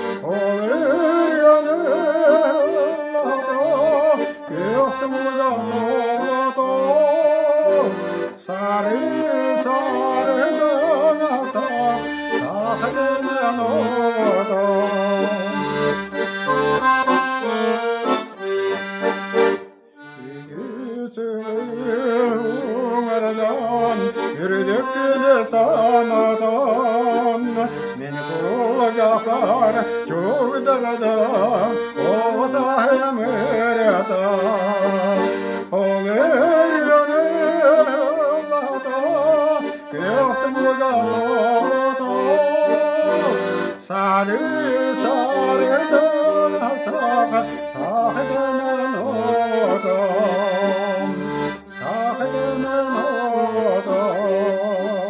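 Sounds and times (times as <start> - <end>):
man singing: 0.0 - 18.8, 20.1 - 55.0
accordion playing folk tune: 0.0 - 55.0.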